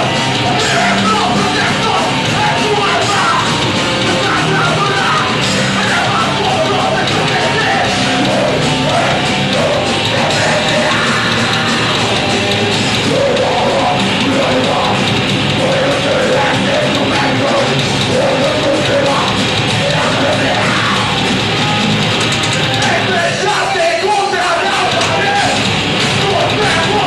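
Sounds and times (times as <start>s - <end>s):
live heavy metal band: 0.0s - 27.0s.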